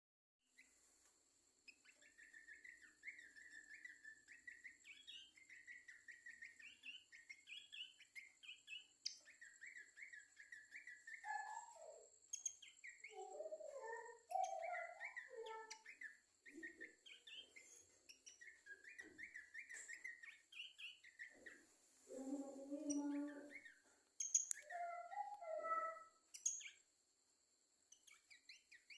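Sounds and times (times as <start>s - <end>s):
babbler bird chirping: 0.5s - 0.8s, 1.6s - 27.0s, 27.8s - 28.9s.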